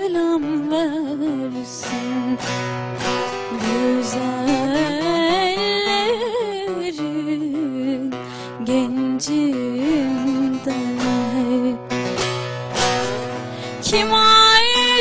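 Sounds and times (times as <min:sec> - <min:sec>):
person singing folk song: 0:00.0 - 0:15.0
plucked string accompaniment: 0:00.0 - 0:15.0.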